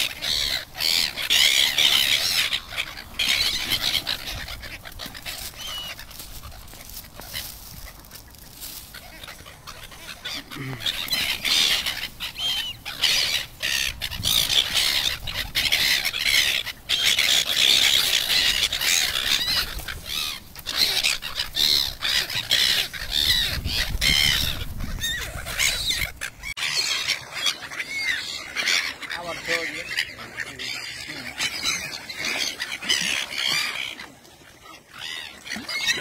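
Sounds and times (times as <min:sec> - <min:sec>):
gulls squealing and calling: 0:00.0 - 0:36.0.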